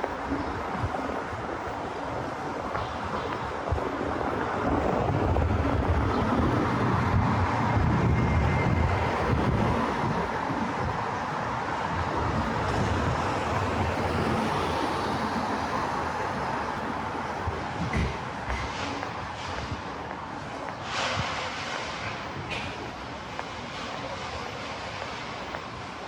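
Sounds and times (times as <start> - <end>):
low traffic rumble: 0.0 - 26.0
vehicle engine and tyre noise: 0.0 - 26.0.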